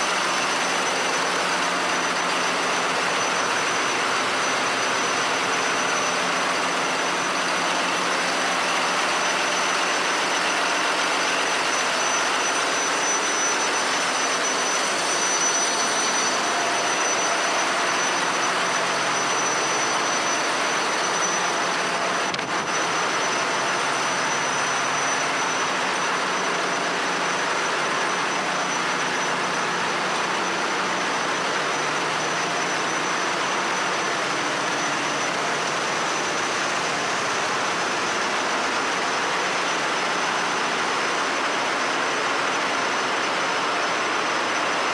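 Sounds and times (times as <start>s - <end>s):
engine room machinery roar: 0.0s - 44.9s
high steady whine: 0.0s - 44.9s.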